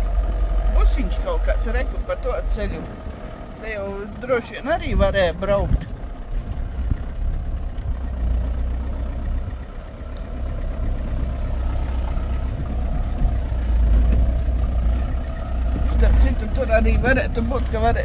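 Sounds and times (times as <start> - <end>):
vehicle engine rumble inside cabin: 0.0 - 18.0.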